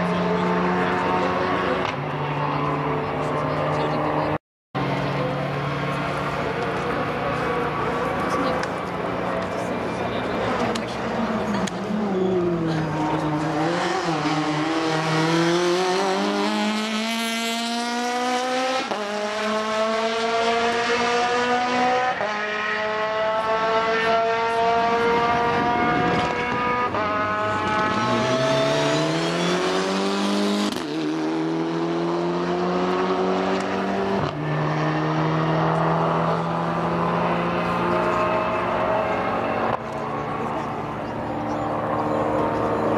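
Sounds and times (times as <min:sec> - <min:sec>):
rally car engines at full throttle: 0:00.0 - 0:42.9.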